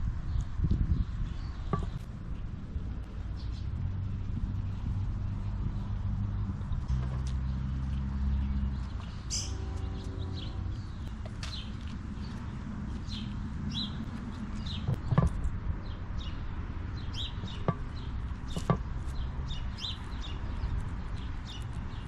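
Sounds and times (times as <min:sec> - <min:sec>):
low background rumble: 0:00.0 - 0:22.0
small birds chirping: 0:00.2 - 0:22.0.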